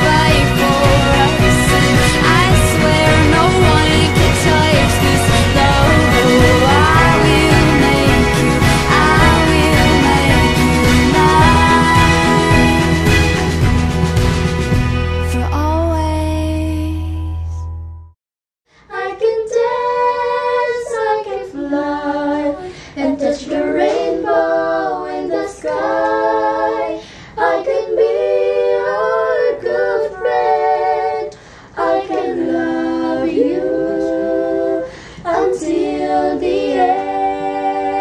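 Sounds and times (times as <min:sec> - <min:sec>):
music: 0:00.0 - 0:18.2, 0:18.9 - 0:38.0.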